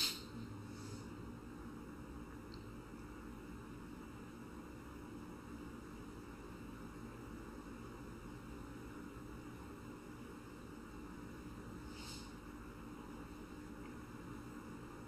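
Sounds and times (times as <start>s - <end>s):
faint electrical hum with hiss: 0.0s - 15.0s.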